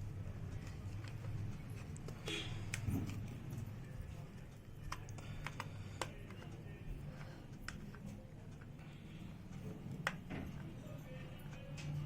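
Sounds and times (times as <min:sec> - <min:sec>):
packaging clicks and crackles: 0:00.2 - 0:12.0.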